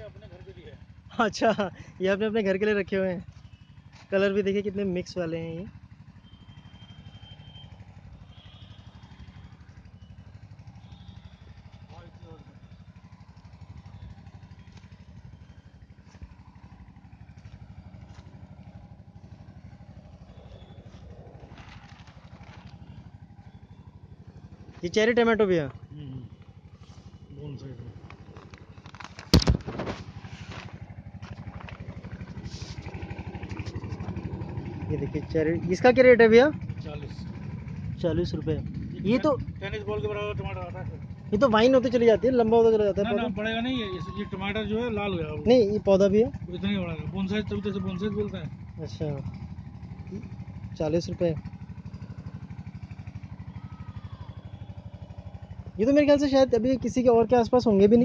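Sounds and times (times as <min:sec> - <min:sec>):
small engine idling: 0:00.0 - 0:58.0.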